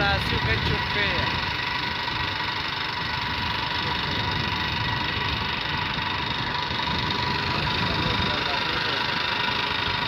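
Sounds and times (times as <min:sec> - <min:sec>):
vehicle engine with rattle: 0:00.0 - 0:10.0.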